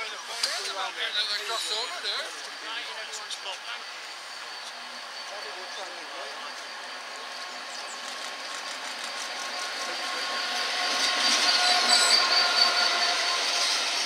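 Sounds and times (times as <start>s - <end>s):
diesel locomotive passing: 0.0s - 14.0s
high squeals from running gear: 0.0s - 14.0s.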